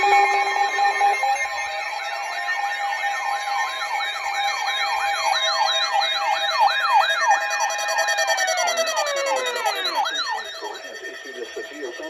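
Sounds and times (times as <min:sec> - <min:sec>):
siren-like warbling alarm: 0:00.0 - 0:12.0.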